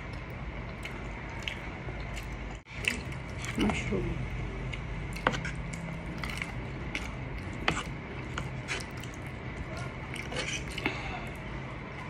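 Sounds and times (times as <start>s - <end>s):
low steady hum: 0.0s - 12.0s
quiet chewing: 0.0s - 12.0s.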